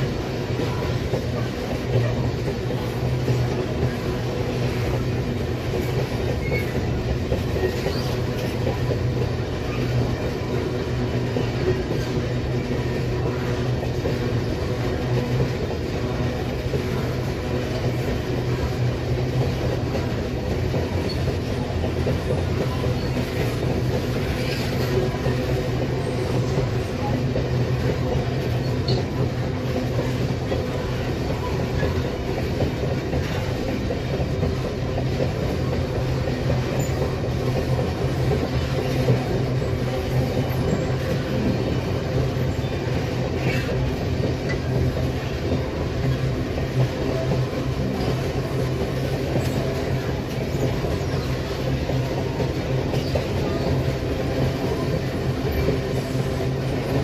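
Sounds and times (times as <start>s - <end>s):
freight train wagons rolling on rails: 0.0s - 57.0s.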